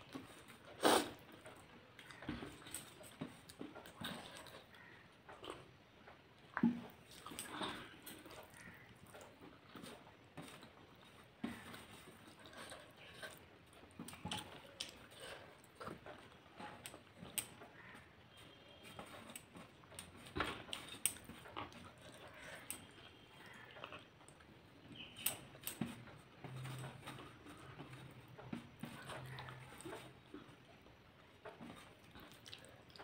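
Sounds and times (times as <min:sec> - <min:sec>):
chewing: 0:00.0 - 0:33.0.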